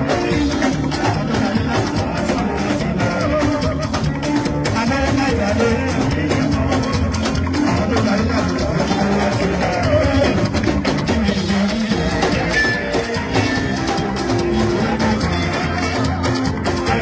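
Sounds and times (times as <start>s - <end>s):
band music with drums: 0.0s - 17.0s.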